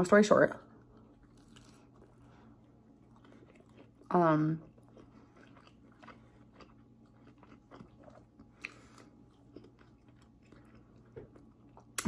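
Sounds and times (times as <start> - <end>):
quiet chewing: 0.7 - 12.0.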